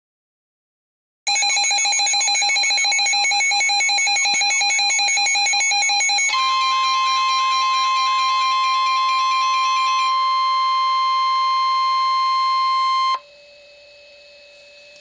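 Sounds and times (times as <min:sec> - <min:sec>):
pulsing electronic alarm: 0:01.3 - 0:15.0
steady alarm tone: 0:01.3 - 0:15.0.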